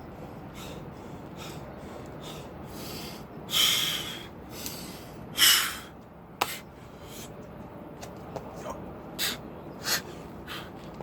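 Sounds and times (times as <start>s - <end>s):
man breathing quickly: 0.2s - 7.5s, 9.2s - 10.9s.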